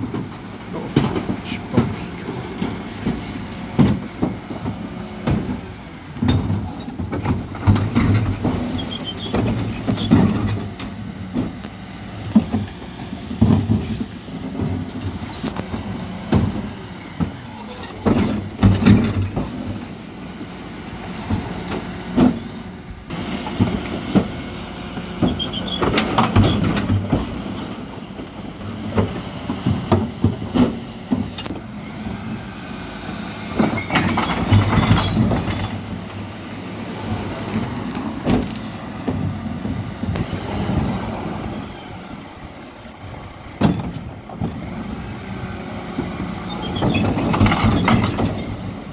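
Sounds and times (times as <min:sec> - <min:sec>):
lorry engine running: 0:00.0 - 0:48.9.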